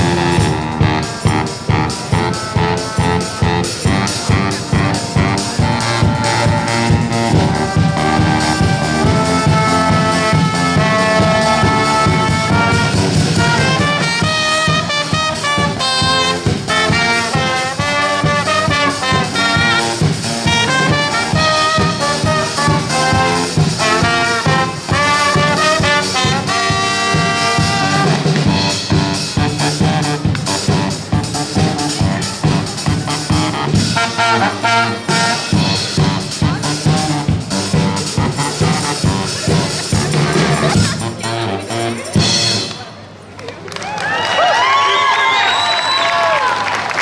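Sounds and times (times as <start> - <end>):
brass band playing: 0.0 - 43.2.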